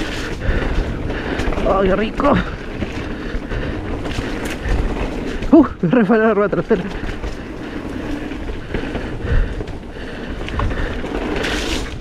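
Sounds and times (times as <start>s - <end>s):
bike parts rattling and clicking: 0.0s - 12.0s
tyres rumbling on rough trail: 0.0s - 12.0s.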